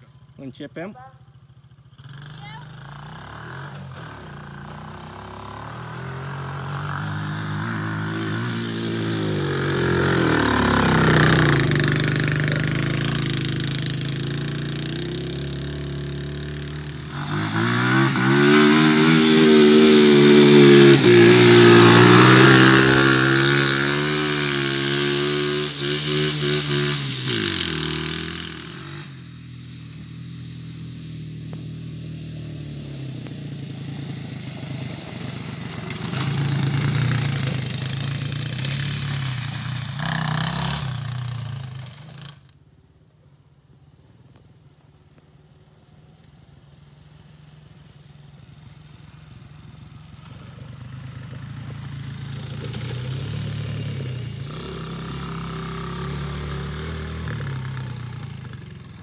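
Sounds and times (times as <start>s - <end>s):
atv engine revving: 0.0s - 42.7s, 44.4s - 59.0s.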